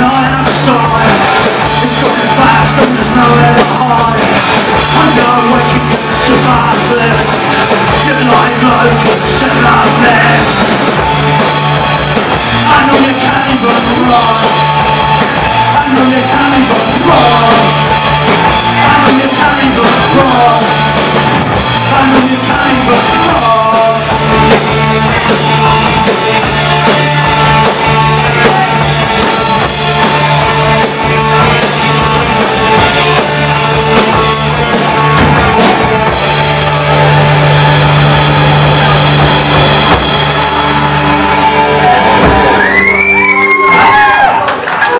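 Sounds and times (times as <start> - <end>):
person singing: 0.0 - 10.6, 12.5 - 39.4
bass guitar: 0.0 - 44.9
distorted electric guitars: 0.0 - 44.9
drum kit: 0.0 - 44.9.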